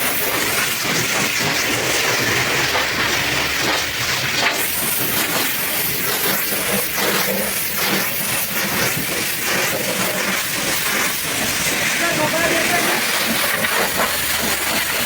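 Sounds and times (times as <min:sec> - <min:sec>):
pressure washer spraying: 0:00.0 - 0:15.0.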